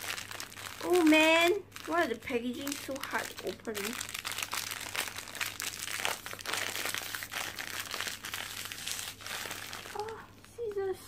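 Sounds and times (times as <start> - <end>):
foil pouch crinkling: 0.0 - 11.0.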